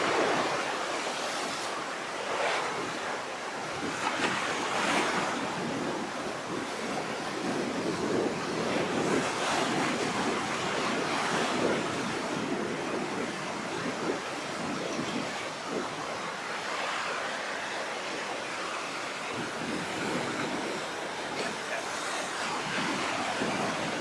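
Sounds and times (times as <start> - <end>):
surf breaking and washing in: 0.0 - 24.0.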